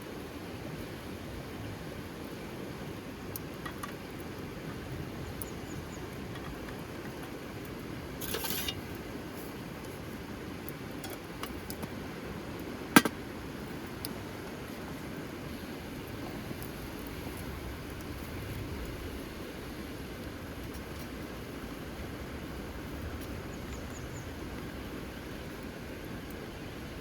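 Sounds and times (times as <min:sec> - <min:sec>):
rain: 0:00.0 - 0:27.0.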